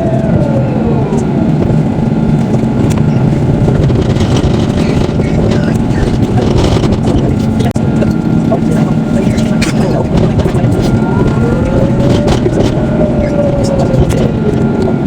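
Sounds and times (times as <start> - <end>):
tram running gear rumble: 0.0 - 15.0.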